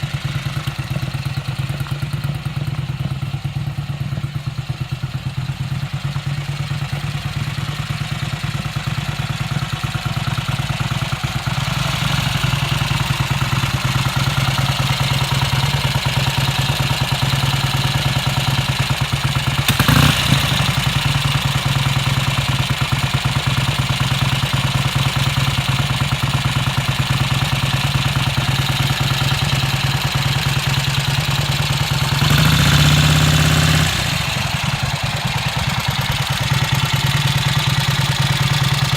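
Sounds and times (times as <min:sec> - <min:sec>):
motorcycle engine idling: 0:00.0 - 0:38.9
motorcycle engine revving: 0:00.0 - 0:38.9.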